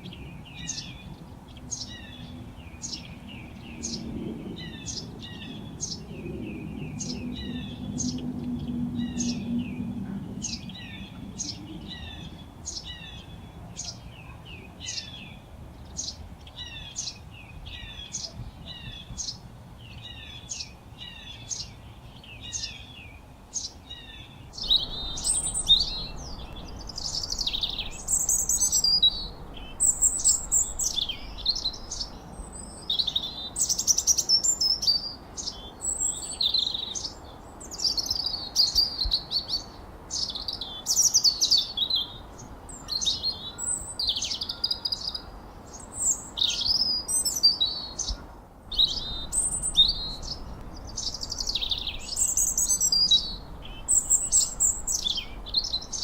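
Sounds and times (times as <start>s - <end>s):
bird chirping: 0.0s - 56.0s
birds twittering: 0.0s - 56.0s.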